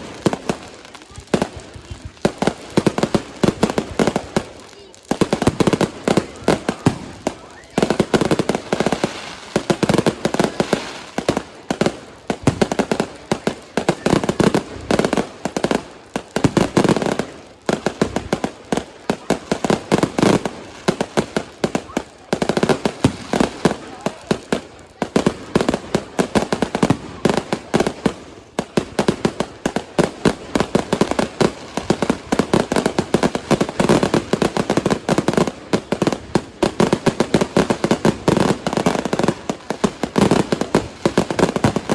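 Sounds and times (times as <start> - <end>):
crowd voices: 0.0 - 41.9
fireworks banging and crackling: 0.0 - 41.9.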